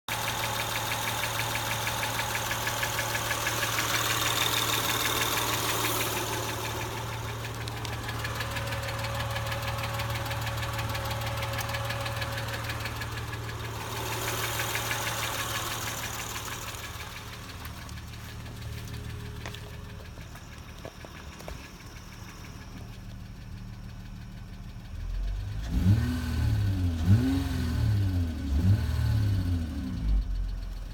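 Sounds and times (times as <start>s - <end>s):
engine revving: 0.1s - 19.8s, 25.0s - 30.5s
fast steady engine ticking: 0.1s - 26.0s
car engine idling: 0.1s - 30.9s.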